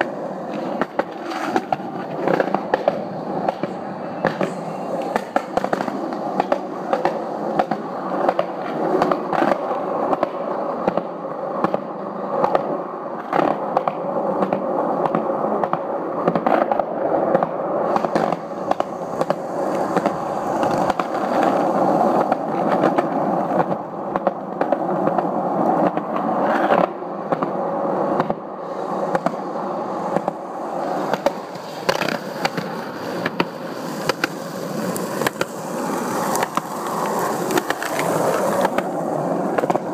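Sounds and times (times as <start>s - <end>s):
skate wheels rolling on concrete: 0.0s - 39.9s.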